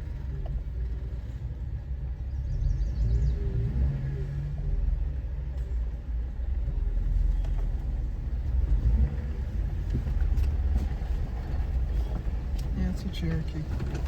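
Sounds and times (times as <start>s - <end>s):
vehicle engine and tyres rumbling: 0.0s - 14.0s.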